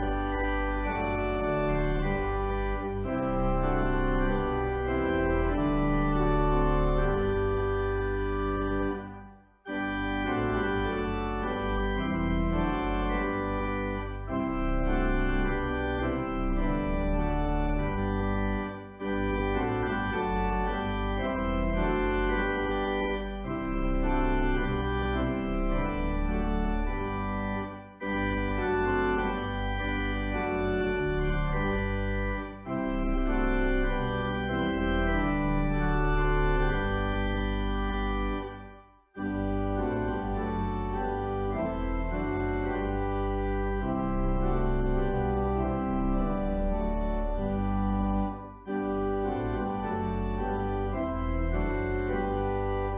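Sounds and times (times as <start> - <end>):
organ playing sustained chords: 0.0 - 52.9.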